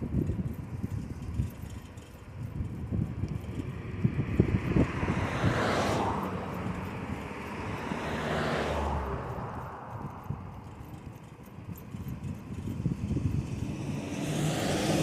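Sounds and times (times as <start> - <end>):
cars passing: 0.0 - 15.0
wind buffeting microphone: 0.0 - 15.0.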